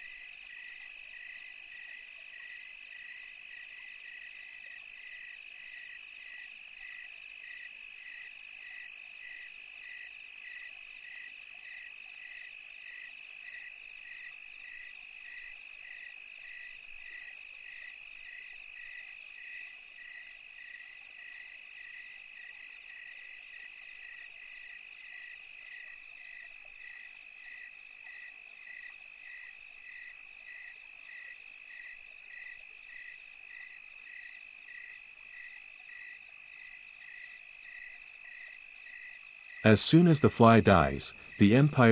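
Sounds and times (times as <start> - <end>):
insects and frogs calling: 0.0 - 41.9.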